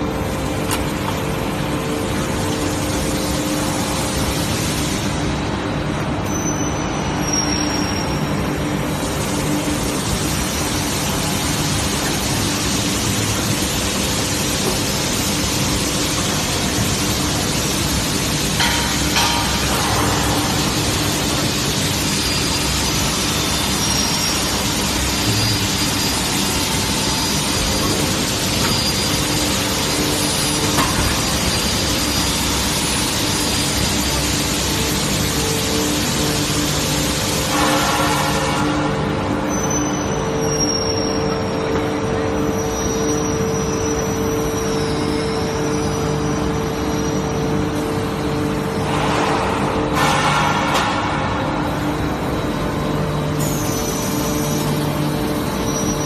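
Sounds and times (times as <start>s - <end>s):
furnace rushing noise with hum: 0.0s - 56.0s
loud steady machinery noise: 0.0s - 56.0s.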